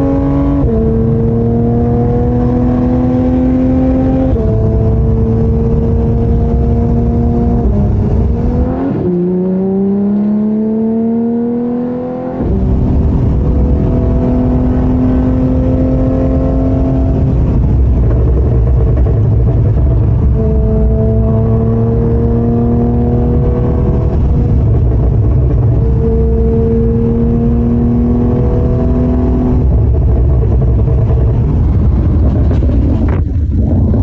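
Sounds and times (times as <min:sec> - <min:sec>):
car engine exhaust note: 0:00.0 - 0:34.0.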